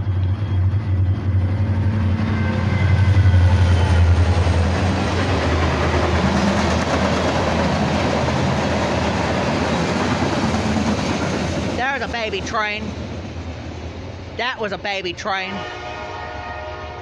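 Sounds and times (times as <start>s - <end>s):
train wheels rolling on rails: 0.0s - 14.8s
locomotive engine rumble: 0.0s - 16.4s.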